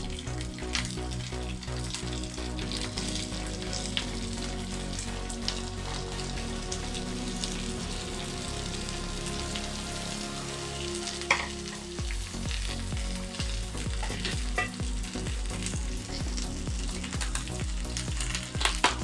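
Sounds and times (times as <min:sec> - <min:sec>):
cabbage sizzling in a pan: 0:00.0 - 0:19.0.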